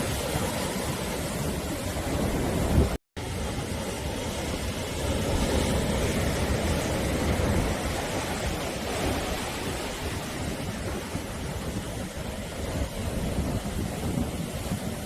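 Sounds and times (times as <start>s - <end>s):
sea waves washing ashore: 0.0s - 15.0s.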